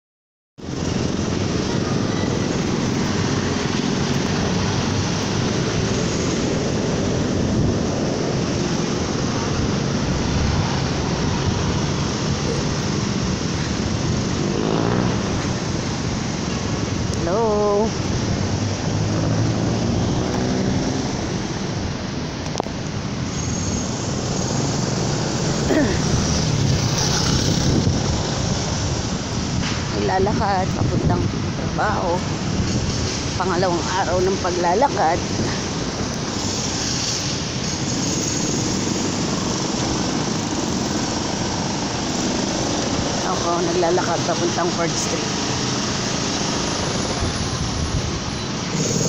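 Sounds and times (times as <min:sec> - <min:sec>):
passing traffic rumble: 0:00.6 - 0:49.0
vehicle engine humming: 0:00.6 - 0:49.0
wind on microphone: 0:00.6 - 0:49.0.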